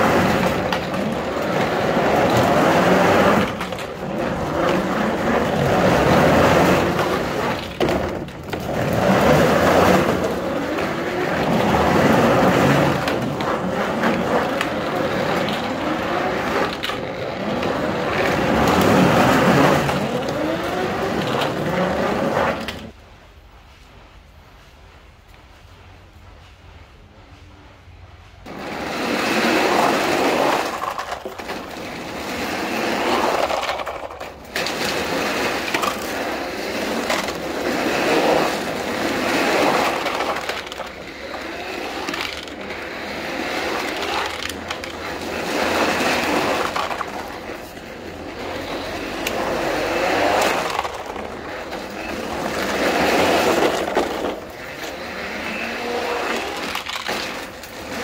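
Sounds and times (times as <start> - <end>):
plastic toy wheels on concrete: 0.0 - 23.0, 28.4 - 58.0.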